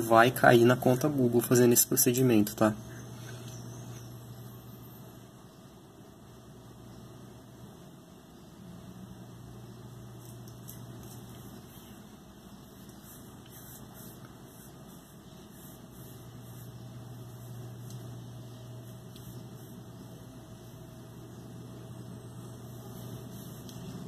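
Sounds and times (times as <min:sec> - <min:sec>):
low hum: 0:02.8 - 0:24.0.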